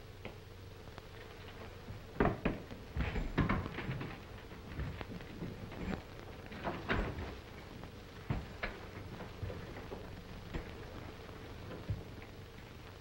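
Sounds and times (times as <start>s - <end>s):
film soundtrack hum and hiss: 0.0s - 13.0s.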